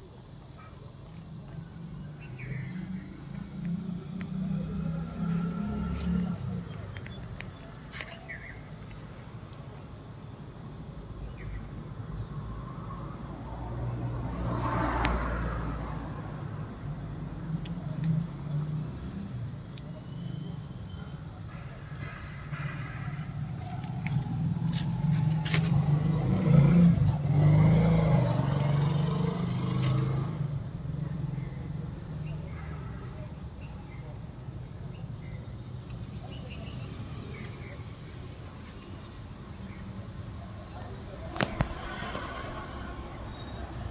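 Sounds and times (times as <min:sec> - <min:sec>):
street background noise: 0:00.0 - 0:43.9
low vehicle rumble: 0:00.9 - 0:09.8, 0:13.9 - 0:31.6, 0:34.6 - 0:43.9.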